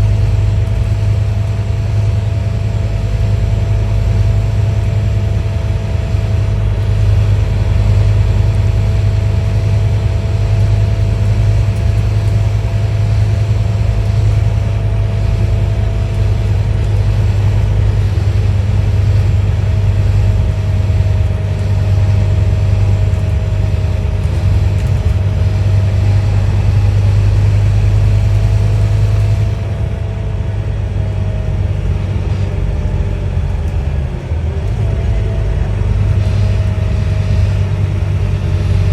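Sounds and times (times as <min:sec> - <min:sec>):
bus diesel engine drone: 0:00.0 - 0:38.9.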